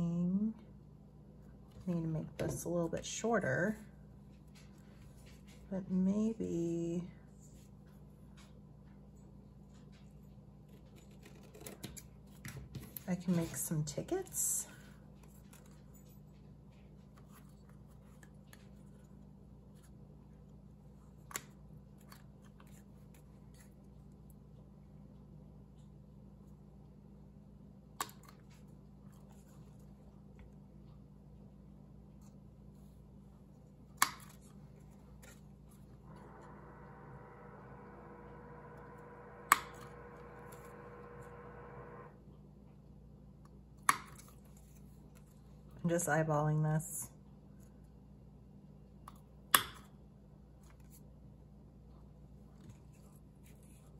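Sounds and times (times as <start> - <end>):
low steady hum: 0.0 - 53.9.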